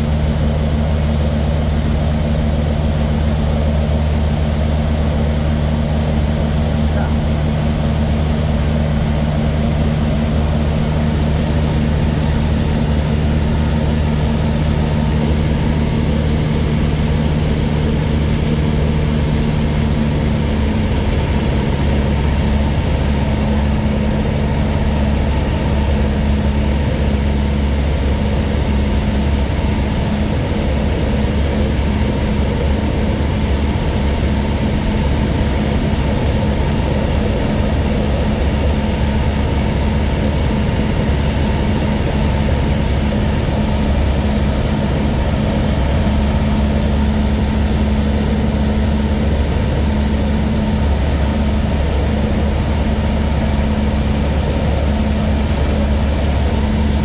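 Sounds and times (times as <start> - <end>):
light aircraft engine and propeller: 0.0 - 57.0.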